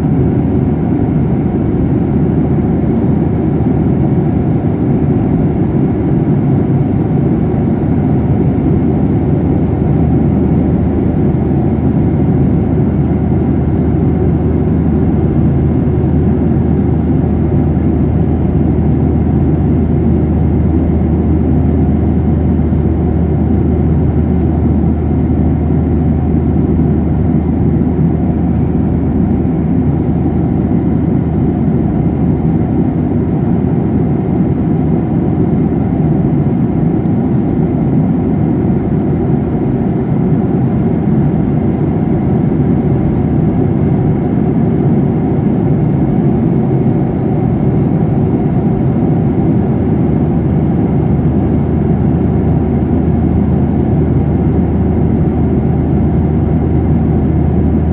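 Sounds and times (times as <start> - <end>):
jet airliner cabin noise: 0.0 - 57.9.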